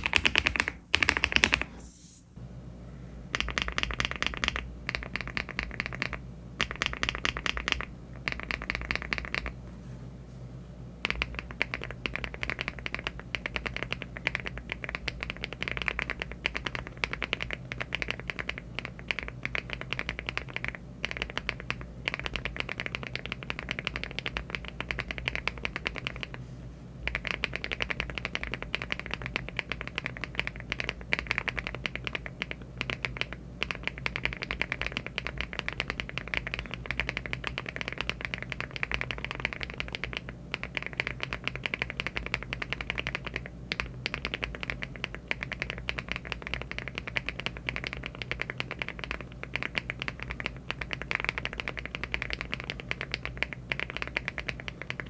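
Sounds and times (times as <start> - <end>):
typing on mechanical keyboard: 0.0 - 1.7, 3.3 - 9.5, 11.0 - 26.4, 27.1 - 55.0.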